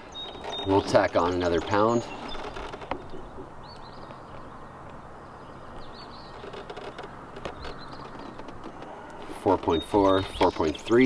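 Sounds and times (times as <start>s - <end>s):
birds chirping: 0.0s - 11.0s
outdoor background hush: 0.0s - 11.0s.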